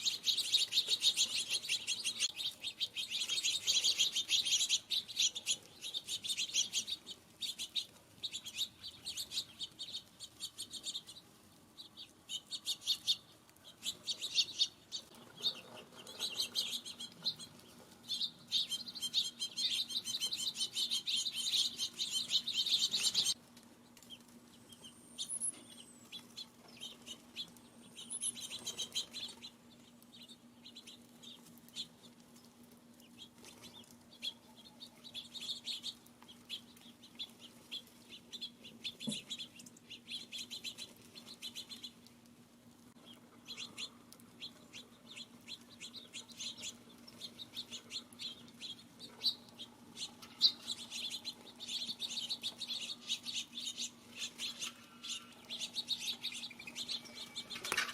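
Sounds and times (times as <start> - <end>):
small songbirds chirping: 0.0 - 57.9.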